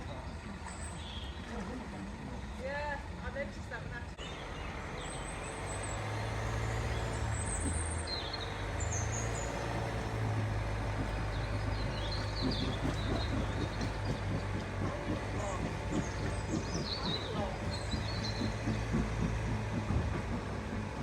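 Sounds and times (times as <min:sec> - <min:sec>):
small birds chirping: 0:00.0 - 0:02.2, 0:04.2 - 0:21.0
vehicle engine running: 0:00.0 - 0:21.0.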